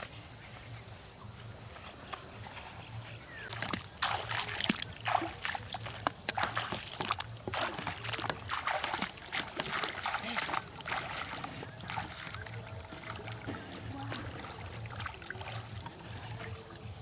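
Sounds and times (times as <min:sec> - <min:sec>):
water sloshing and splashing: 0:01.8 - 0:17.0.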